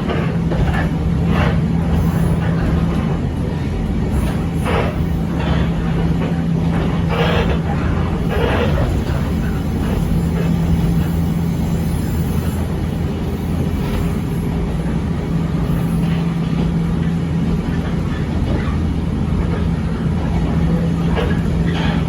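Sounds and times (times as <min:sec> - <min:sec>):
railcar running rumble: 0:00.0 - 0:22.0.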